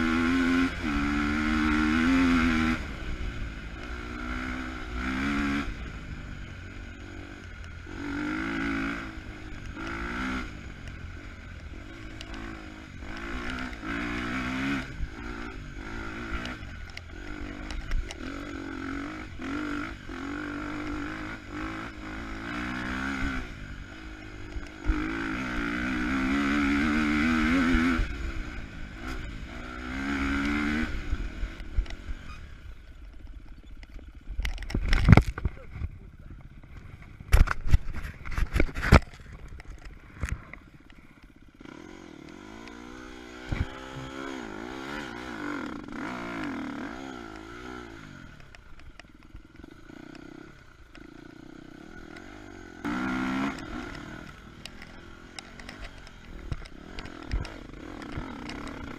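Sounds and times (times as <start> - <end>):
dirt bike engine revving: 0.0 - 35.6, 36.4 - 58.9
low rumble of wind: 0.0 - 58.9.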